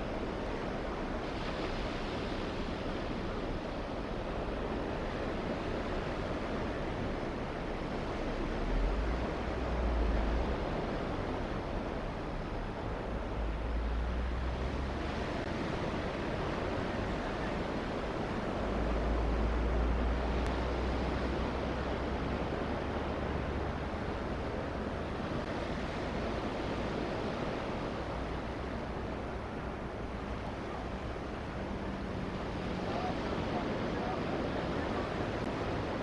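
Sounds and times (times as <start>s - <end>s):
surf washing on beach: 0.0s - 36.0s.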